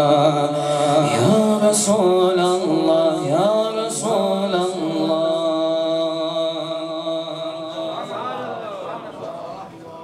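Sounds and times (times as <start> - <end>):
man chanting: 0.0 - 8.6.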